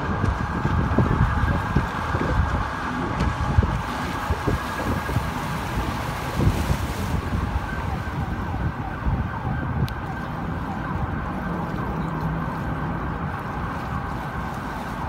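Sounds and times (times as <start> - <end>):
emergency siren sweeping: 0.0 - 15.0.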